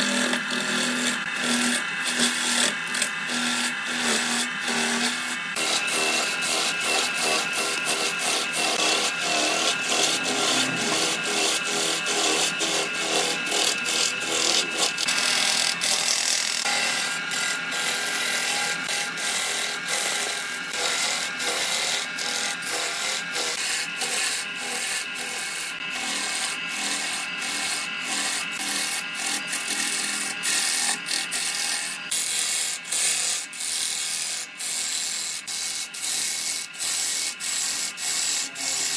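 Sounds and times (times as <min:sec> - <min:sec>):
gouge scraping wood on lathe: 0:00.0 - 0:38.9.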